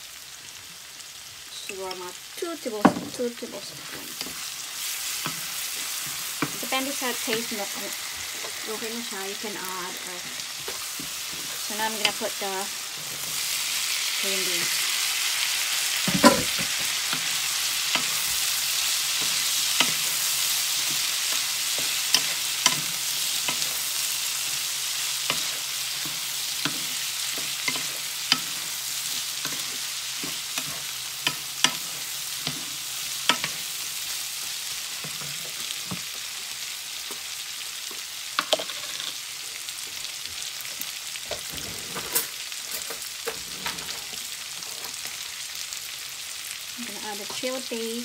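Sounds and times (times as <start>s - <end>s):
food sizzling in a frying pan: 0.0s - 48.0s.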